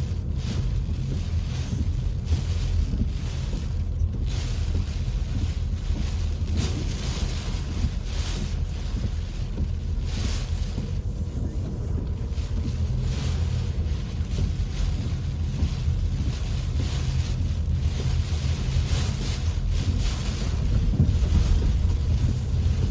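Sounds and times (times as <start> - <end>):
strong wind buffeting microphone: 0.0 - 22.9.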